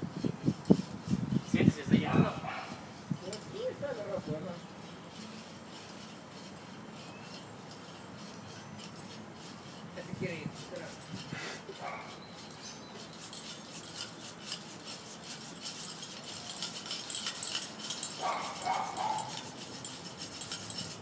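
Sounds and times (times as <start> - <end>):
air pump hisses and ticks: 0.0 - 21.0.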